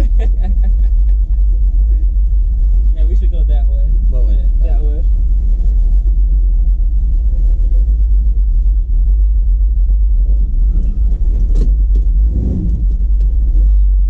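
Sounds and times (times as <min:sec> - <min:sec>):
pickup engine rumbling: 0:00.0 - 0:14.0.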